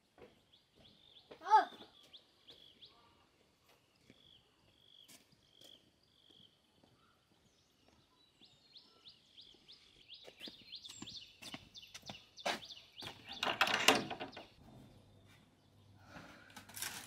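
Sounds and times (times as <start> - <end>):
bird chirps: 0.4 - 15.9.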